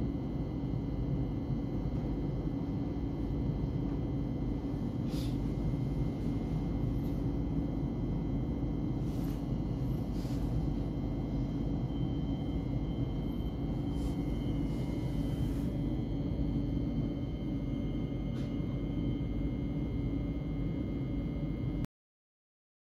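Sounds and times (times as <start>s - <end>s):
high electric whine: 0.0s - 21.9s.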